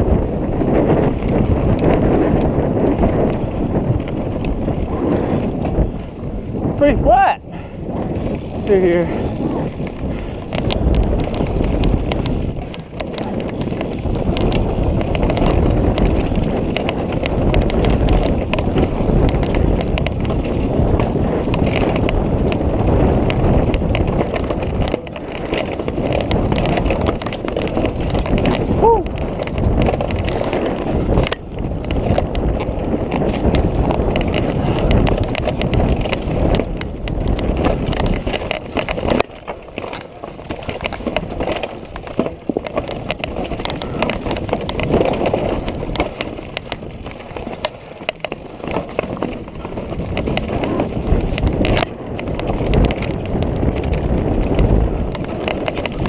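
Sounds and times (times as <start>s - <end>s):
bike clattering and rattling: 0.0s - 56.0s.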